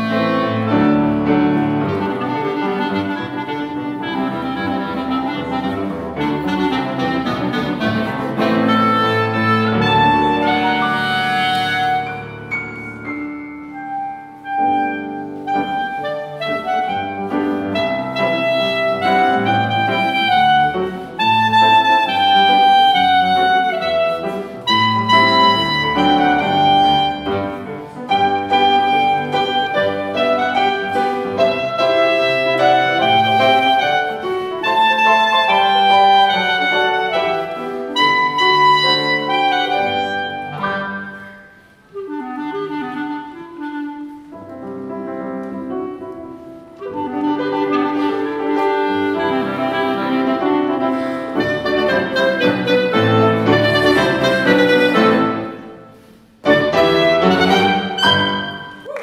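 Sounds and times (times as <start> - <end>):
piano accompaniment: 0.0 - 59.0
wind instrument melody: 0.0 - 59.0.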